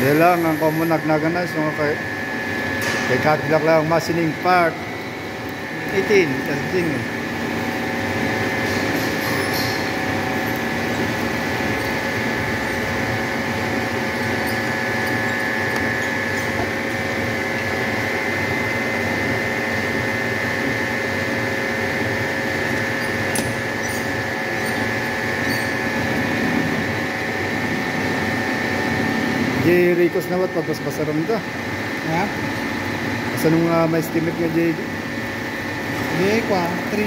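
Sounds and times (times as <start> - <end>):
milling machine humming: 0.0 - 37.0.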